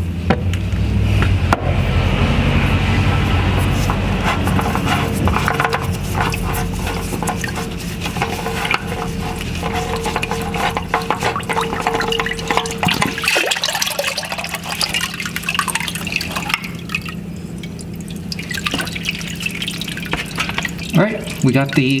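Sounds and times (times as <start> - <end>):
oil pouring into drain pan: 1.8 - 22.0.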